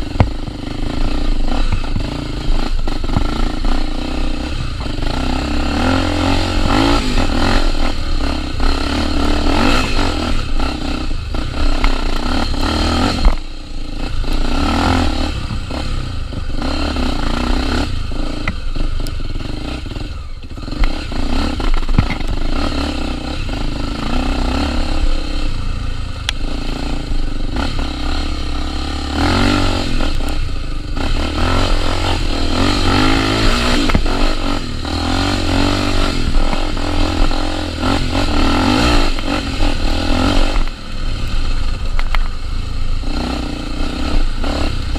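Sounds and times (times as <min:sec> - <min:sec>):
motorcycle knocks and clatter: 0:00.0 - 0:23.0, 0:29.2 - 0:42.4
motorcycle engine revving: 0:00.0 - 0:44.9.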